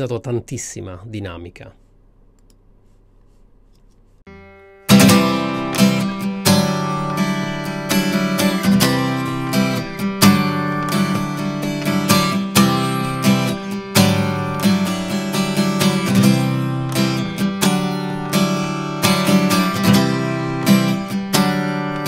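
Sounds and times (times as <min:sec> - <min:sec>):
acoustic guitar strumming: 0:04.3 - 0:22.0.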